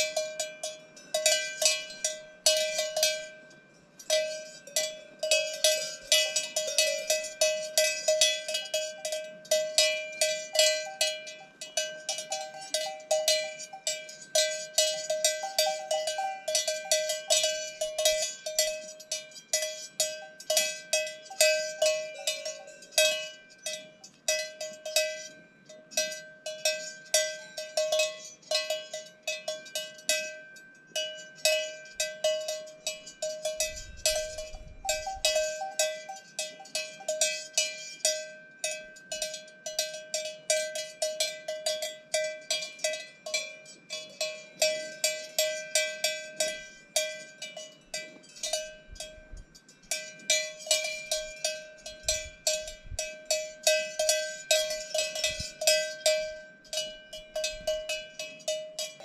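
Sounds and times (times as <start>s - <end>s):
cowbells clanking: 0.0s - 59.0s.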